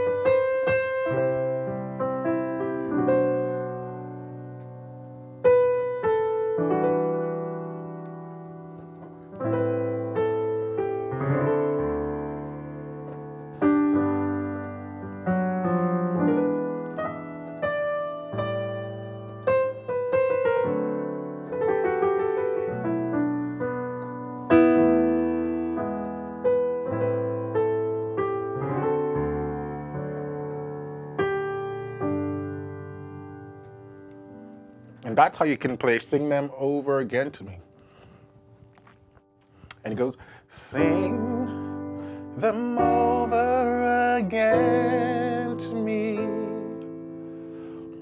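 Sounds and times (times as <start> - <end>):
piano playing slow chords: 0.0 - 48.0.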